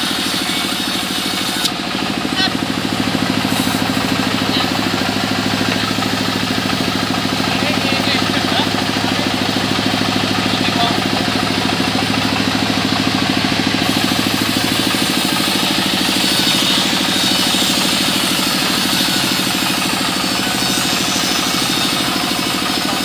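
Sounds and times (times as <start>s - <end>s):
sawmill saw cutting timber: 0.0s - 23.0s.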